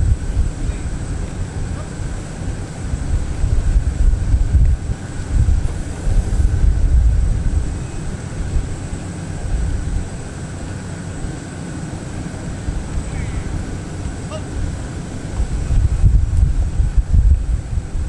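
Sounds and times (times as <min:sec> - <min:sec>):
aircraft engines rumbling: 0:00.0 - 0:18.0
high engine whine: 0:00.0 - 0:18.0
wind buffeting microphone: 0:00.0 - 0:18.0.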